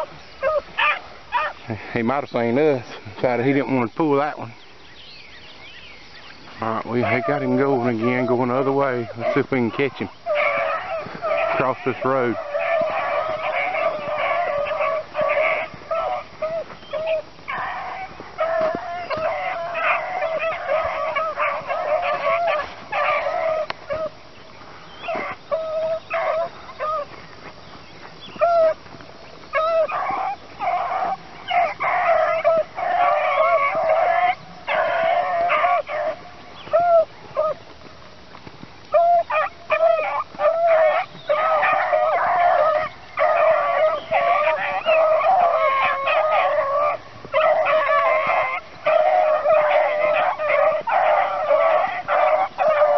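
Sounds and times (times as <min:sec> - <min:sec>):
beagles baying: 0:00.0 - 0:04.8, 0:06.3 - 0:52.9.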